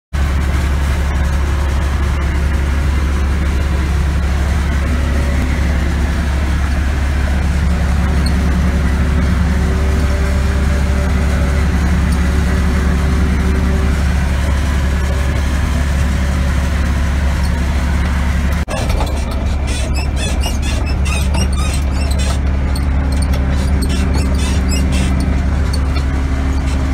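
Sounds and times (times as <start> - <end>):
forage harvester engine drone: 0.1 - 26.9.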